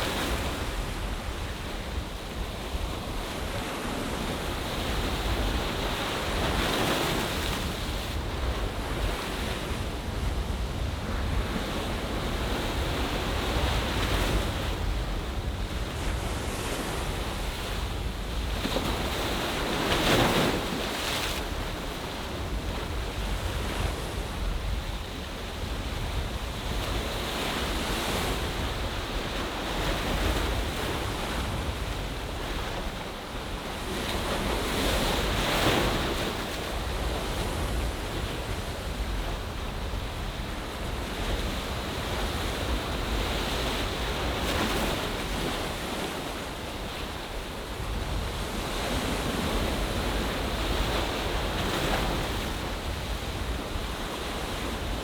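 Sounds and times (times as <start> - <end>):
sea waves washing ashore: 0.0 - 55.0
wind rumble on microphone: 0.0 - 55.0.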